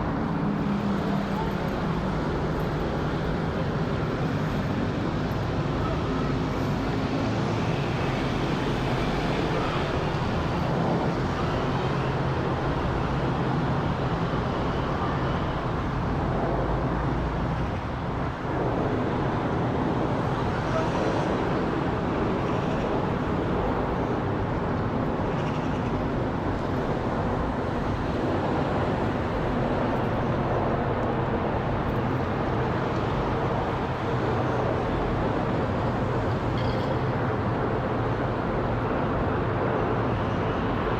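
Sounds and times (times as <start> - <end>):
jet engines roaring overhead: 0.0 - 40.9.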